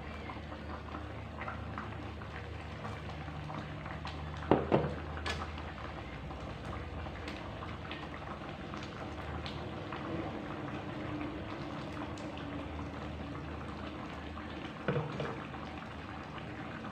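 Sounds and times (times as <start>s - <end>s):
curry simmering and bubbling: 0.0s - 16.9s.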